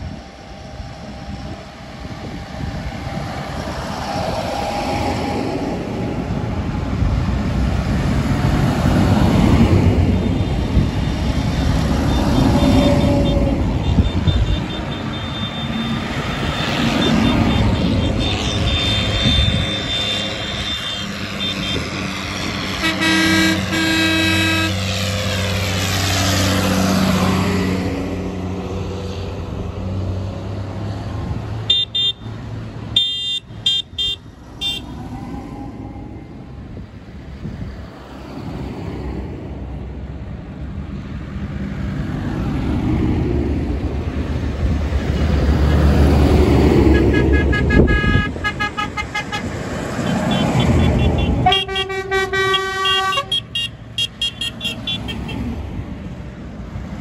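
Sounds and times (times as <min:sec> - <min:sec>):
tractor diesel engines passing: 0:00.0 - 0:57.0.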